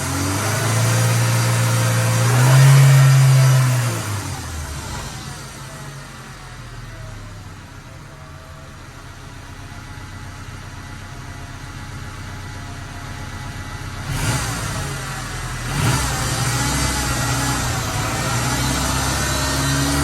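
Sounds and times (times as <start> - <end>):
car engine and drivetrain running: 0.0 - 20.0.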